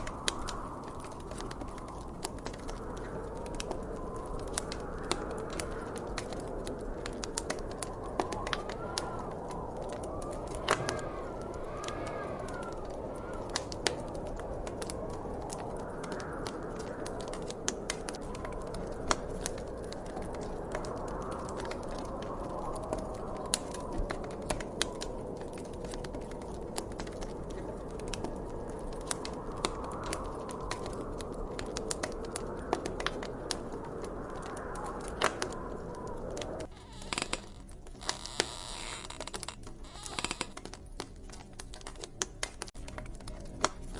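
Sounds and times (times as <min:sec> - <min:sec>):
low rush of wind: 0:00.0 - 0:38.0
wood fire crackling and popping: 0:00.0 - 0:43.9.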